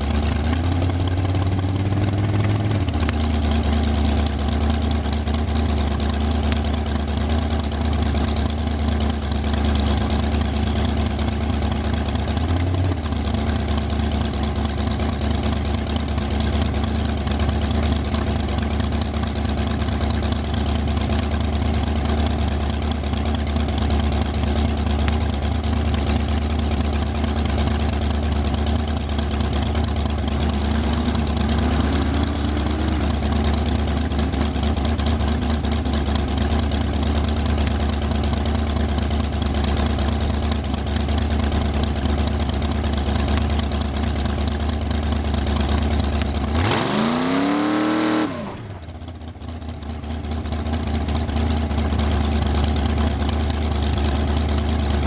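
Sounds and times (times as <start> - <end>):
dragster engine idling: 0.0 - 55.0.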